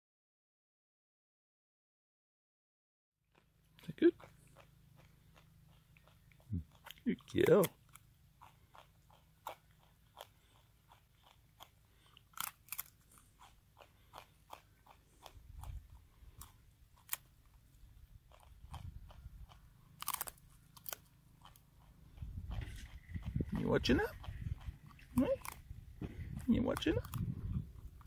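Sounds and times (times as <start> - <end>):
animal crunching dry noodles: 3.3 - 28.0.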